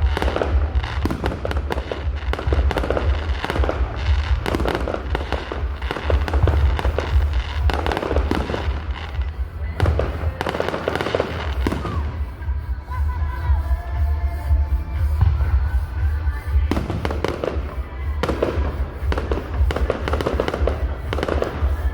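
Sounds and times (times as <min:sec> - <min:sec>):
fireworks bangs and crackling: 0:00.0 - 0:21.9
heavy low rumble: 0:00.0 - 0:21.9.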